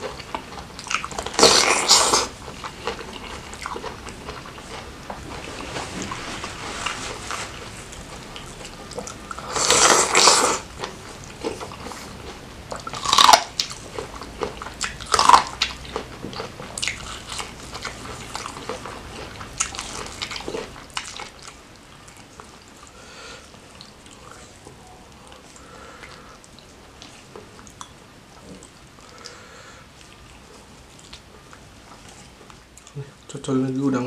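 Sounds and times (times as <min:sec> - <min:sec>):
chewing: 0:00.0 - 0:33.1.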